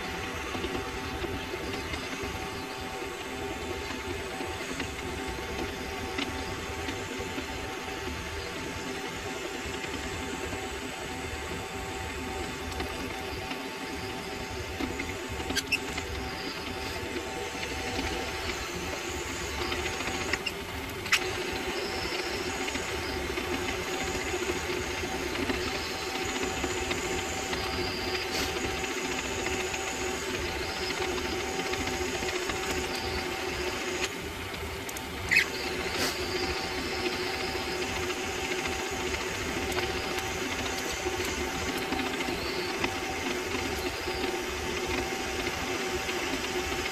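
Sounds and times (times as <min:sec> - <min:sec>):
lathe running: 0:00.0 - 0:46.9.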